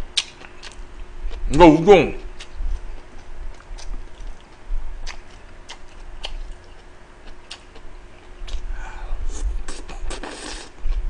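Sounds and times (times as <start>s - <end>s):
person chewing: 0.2s - 1.4s, 2.3s - 11.0s.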